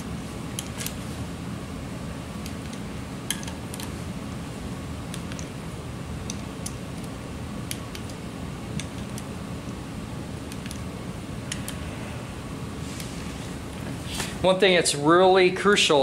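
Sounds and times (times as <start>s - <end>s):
low shop hum: 0.0s - 16.0s.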